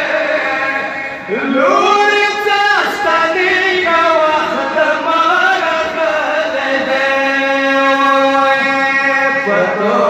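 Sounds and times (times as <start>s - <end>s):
men chanting: 0.0s - 10.0s.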